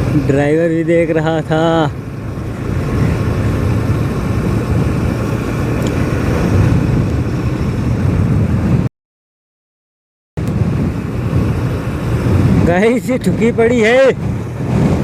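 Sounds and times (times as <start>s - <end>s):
motorcycle riding at speed: 0.0s - 8.9s, 10.4s - 15.0s
wind rush: 0.0s - 8.9s, 10.4s - 15.0s.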